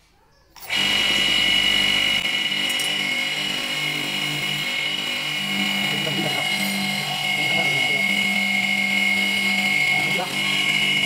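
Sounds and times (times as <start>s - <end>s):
bench grinder whine: 0.6s - 11.0s
blade pressed on grinding wheel: 0.6s - 11.0s.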